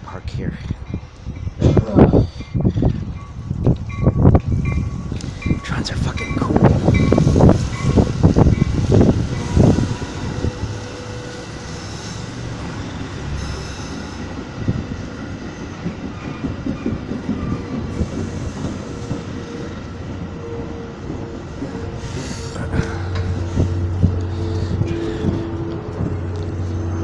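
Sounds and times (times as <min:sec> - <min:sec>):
train rolling on rails: 0:00.0 - 0:27.0.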